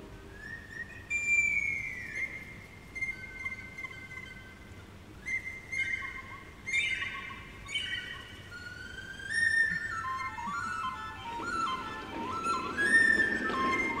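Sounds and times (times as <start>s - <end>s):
flute-like wind instrument melody: 0.0s - 14.0s.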